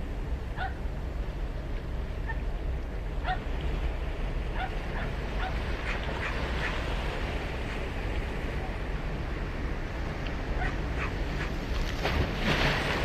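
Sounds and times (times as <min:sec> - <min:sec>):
low wind rumble: 0:00.0 - 0:13.0
ocean surf: 0:00.0 - 0:13.0.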